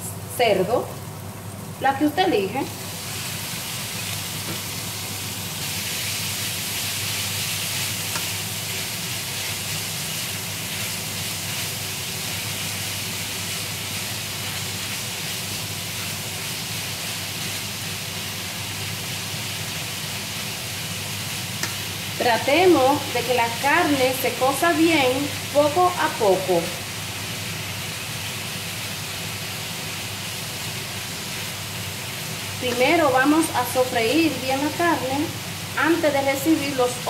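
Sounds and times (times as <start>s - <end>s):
meat sizzling in a pan: 0.4s - 37.0s.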